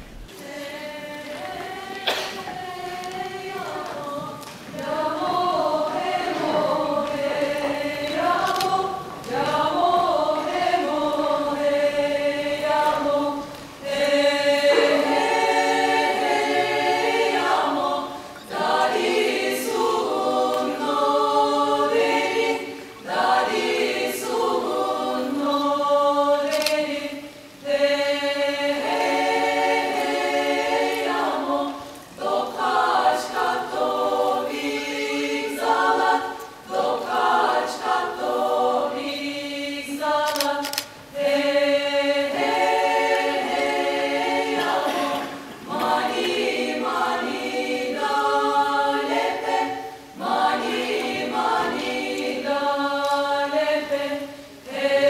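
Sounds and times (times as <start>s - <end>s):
women's choir singing a cappella: 0.0s - 55.0s.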